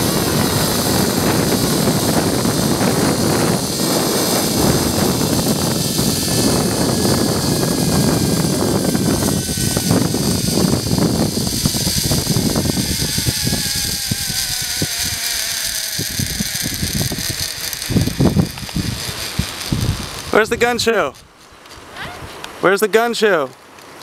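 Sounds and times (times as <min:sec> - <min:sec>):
zipline pulleys whining on cable: 0:00.0 - 0:21.0
wind on microphone: 0:00.0 - 0:22.4.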